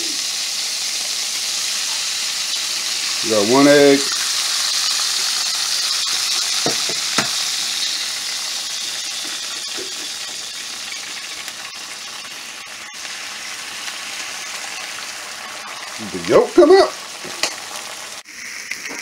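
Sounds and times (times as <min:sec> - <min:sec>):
egg sizzling in a pan: 0:00.0 - 0:19.0.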